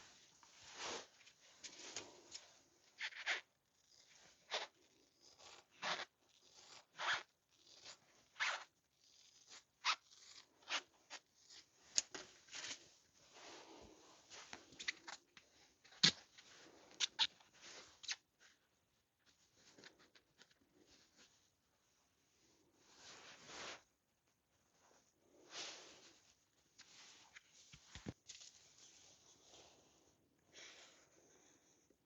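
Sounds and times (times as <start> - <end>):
scraping and rustling on foam: 0.0 - 18.6, 22.4 - 24.0, 24.7 - 30.9.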